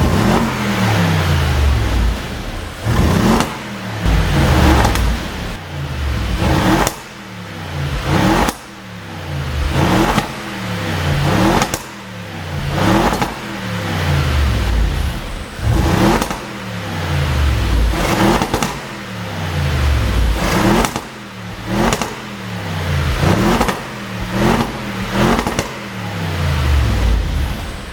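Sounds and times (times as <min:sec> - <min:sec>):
exhaust pops and crackles: 0:00.0 - 0:08.9, 0:09.5 - 0:13.7, 0:14.3 - 0:27.9
car engine revving: 0:00.0 - 0:27.9.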